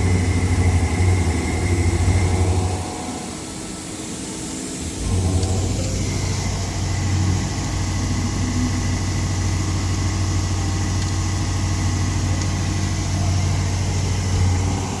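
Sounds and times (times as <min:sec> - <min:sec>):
machining center humming: 0:00.0 - 0:15.0.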